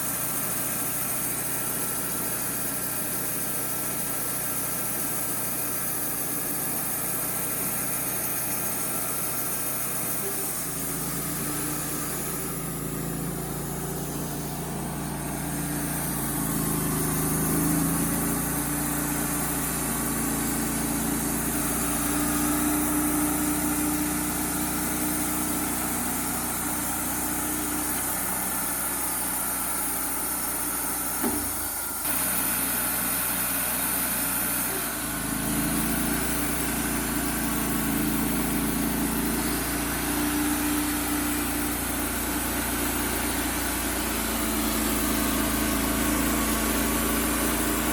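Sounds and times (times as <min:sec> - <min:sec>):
engine running under changing load: 0:00.0 - 0:47.9.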